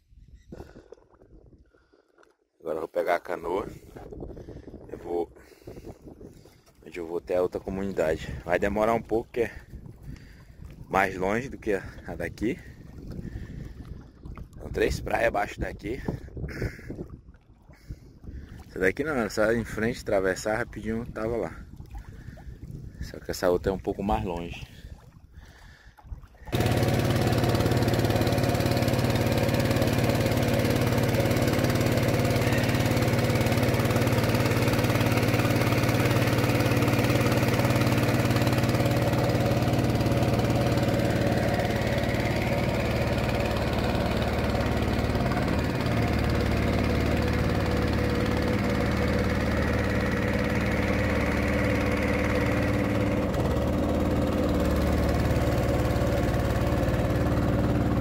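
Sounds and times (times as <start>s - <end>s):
outboard motor running: 0.5s - 58.0s.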